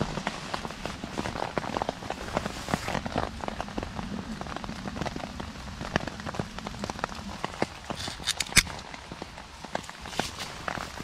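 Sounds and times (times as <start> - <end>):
rain on leaf litter: 0.0 - 11.0.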